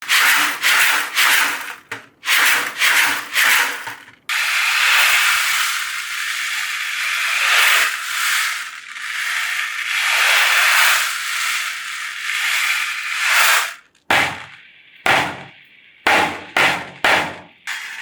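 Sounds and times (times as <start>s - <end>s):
ocean drum beads rolling: 0.1s - 15.0s.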